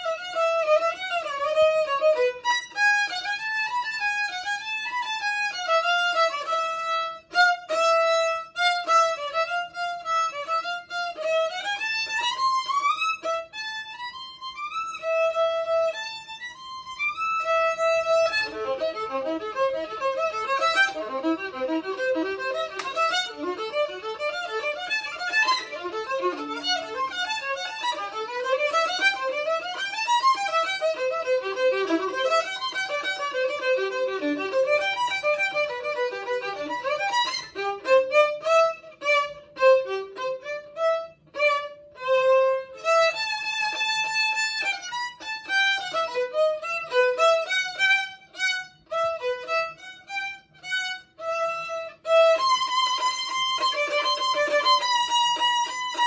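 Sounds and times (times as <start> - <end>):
solo violin bowed: 0.0 - 56.0.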